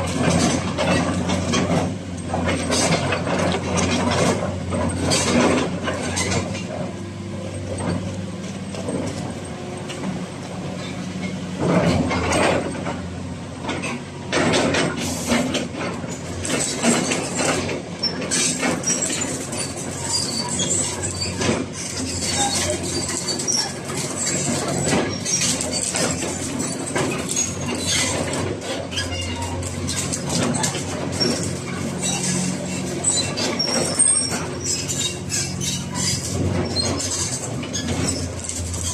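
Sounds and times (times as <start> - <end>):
excavator diesel engine running: 0.0 - 38.9
metallic clanks and rattles: 0.0 - 38.9.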